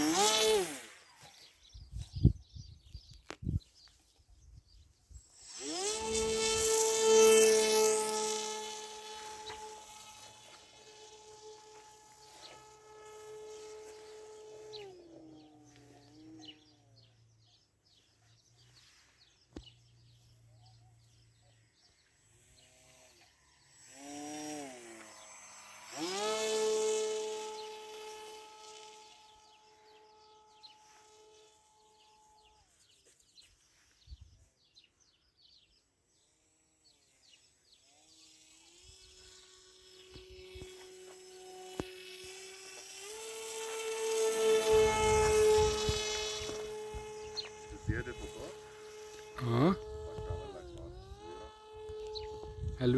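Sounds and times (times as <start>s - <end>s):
electric motor spinning propeller: 0.0s - 17.5s, 19.4s - 33.6s, 36.1s - 52.9s.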